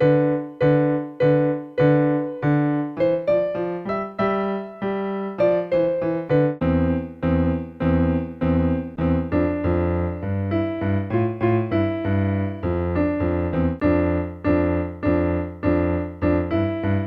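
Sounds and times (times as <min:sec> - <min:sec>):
electronic keyboard piano melody: 0:00.0 - 0:17.0.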